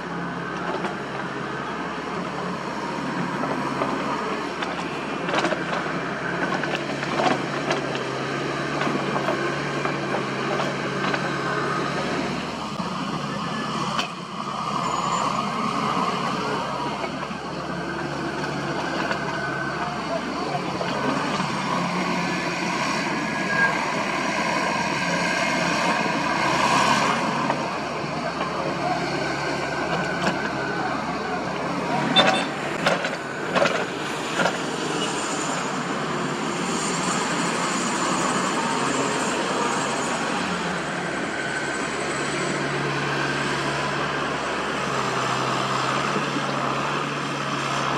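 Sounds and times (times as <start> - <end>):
heavy machinery engine whining: 0.0 - 47.9.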